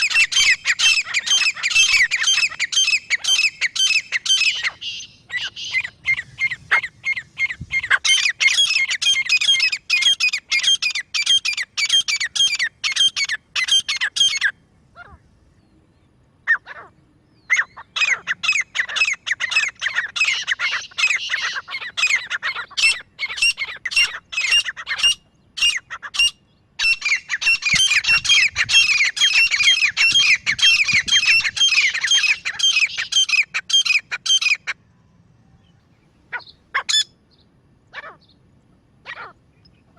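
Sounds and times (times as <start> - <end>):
francolin calling: 0.0 - 15.3, 16.4 - 34.8, 35.5 - 38.4.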